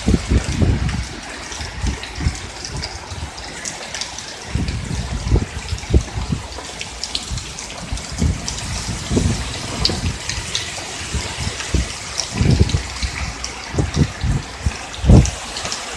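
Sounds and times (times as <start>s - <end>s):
steady rain pattering: 0.0s - 15.9s
wind gusts buffeting microphone: 0.0s - 15.9s.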